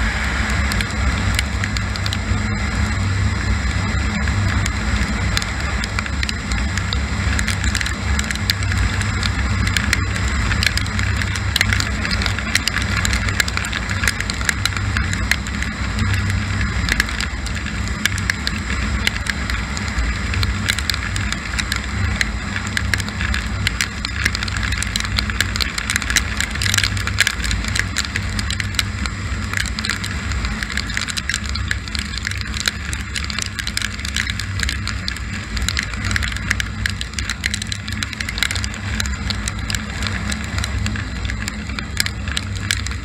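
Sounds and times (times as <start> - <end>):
motorcycle engine running: 0.0 - 43.0
raindrops ticking on helmet: 0.0 - 43.0.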